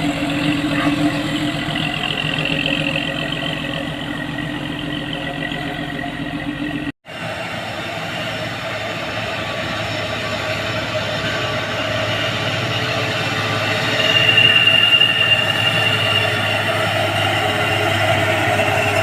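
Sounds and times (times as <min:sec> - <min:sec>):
diesel truck engine labouring: 0:00.0 - 0:19.0
high-pitched whine: 0:00.0 - 0:19.0.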